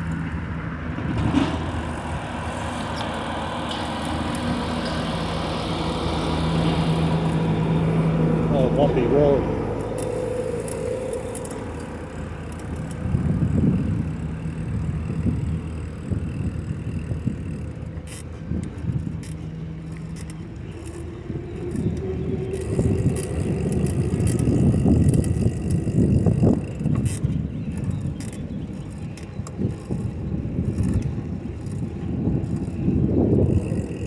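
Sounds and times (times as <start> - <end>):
bicycle rattling over bumps: 0.0 - 34.0
bicycle wheels rumbling: 0.0 - 34.0.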